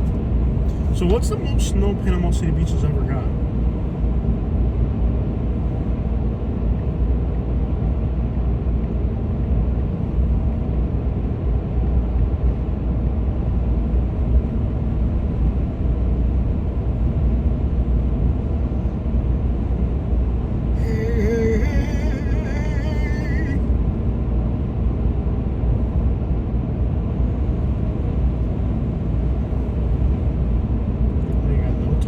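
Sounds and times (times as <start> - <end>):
vehicle cabin drone of engine and tyres: 0.0 - 32.0.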